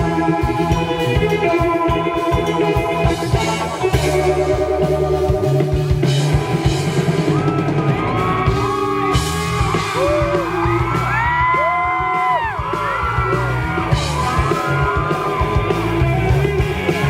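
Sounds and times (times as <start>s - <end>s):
bending high guitar notes: 0.0s - 17.0s
live rock band playing: 0.0s - 17.0s.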